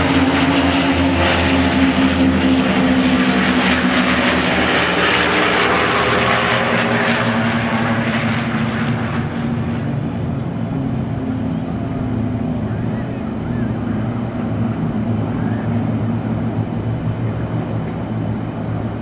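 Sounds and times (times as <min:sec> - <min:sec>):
propeller planes droning overhead: 0:00.0 - 0:19.0.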